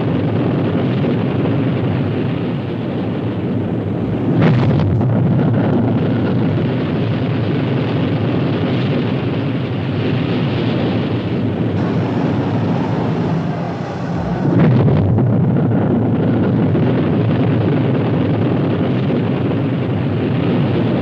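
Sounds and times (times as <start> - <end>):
rocket engine roaring: 0.1 - 8.7, 10.1 - 21.0.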